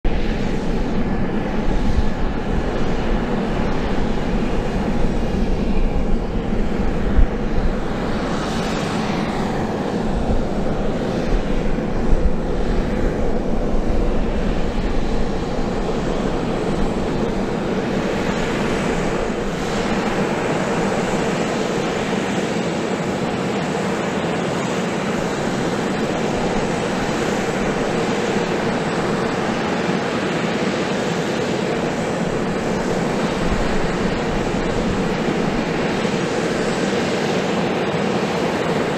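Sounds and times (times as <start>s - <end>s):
aircraft turbine whine and hum: 0.0s - 38.9s
wind buffeting microphone: 0.0s - 38.9s.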